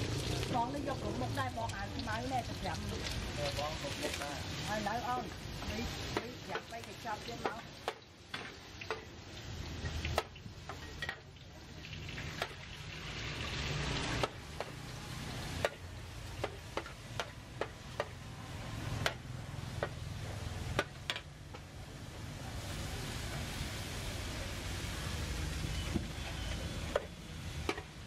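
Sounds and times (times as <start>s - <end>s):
meat sizzling in a wok: 0.0s - 28.0s.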